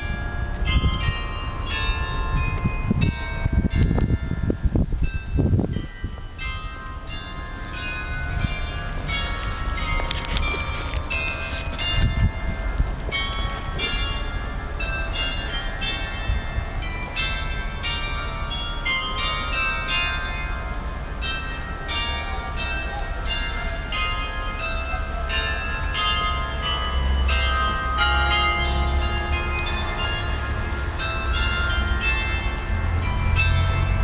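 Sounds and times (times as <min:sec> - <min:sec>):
church bells ringing: 0:00.0 - 0:34.0.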